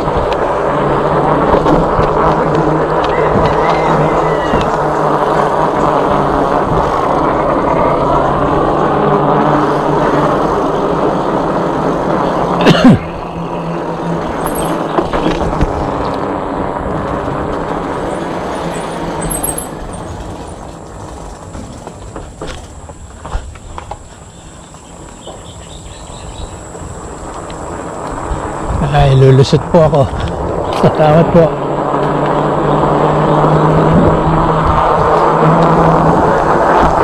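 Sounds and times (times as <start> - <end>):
electric bike motor hum: 0.0 - 37.0
wind and tyre noise: 0.0 - 37.0.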